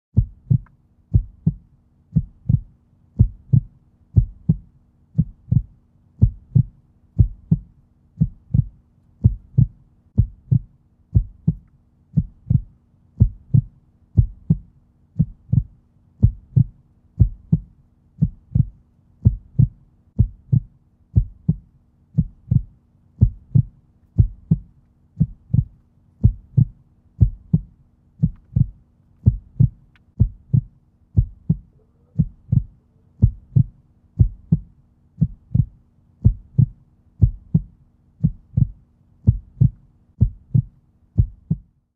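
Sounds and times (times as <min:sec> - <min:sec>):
heartbeat thumps: 0:00.2 - 0:41.8
faint low hum: 0:00.2 - 0:41.9.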